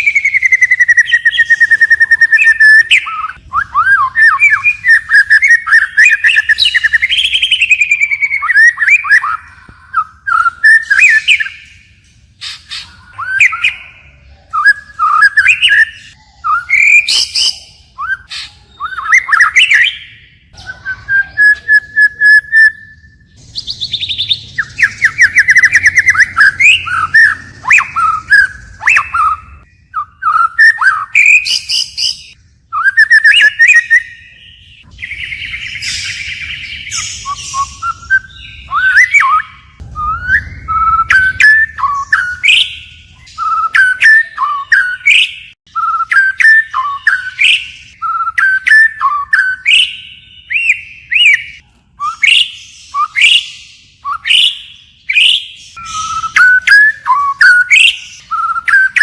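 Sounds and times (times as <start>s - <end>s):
bird singing whistled song: 0.0s - 59.0s.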